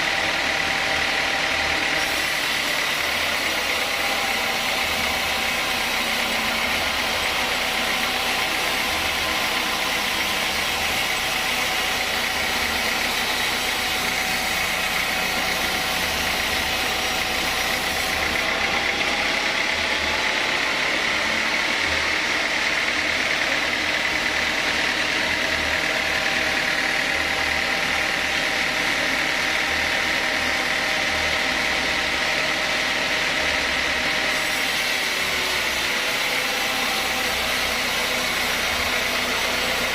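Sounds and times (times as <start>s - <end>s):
sawmill saw machinery whining: 0.0s - 39.9s.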